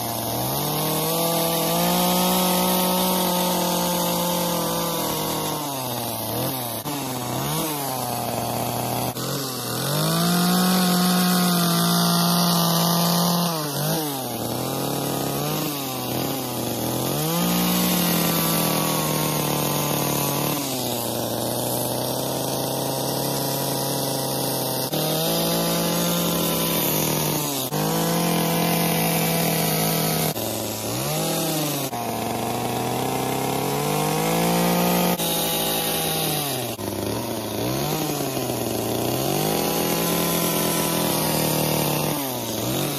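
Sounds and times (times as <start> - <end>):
chainsaw carving wood: 0.0 - 42.9.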